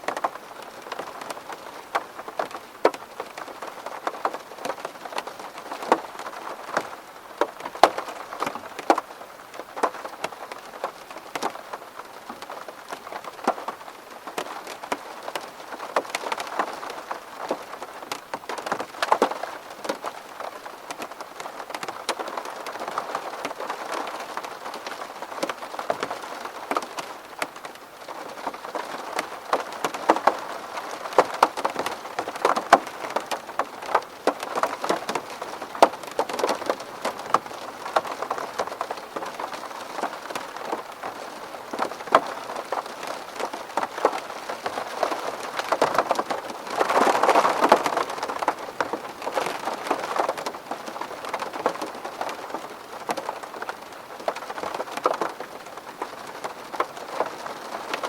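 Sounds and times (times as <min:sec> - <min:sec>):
raindrops tapping on window: 0:00.0 - 0:58.0
steady hiss of rain: 0:00.0 - 0:58.0.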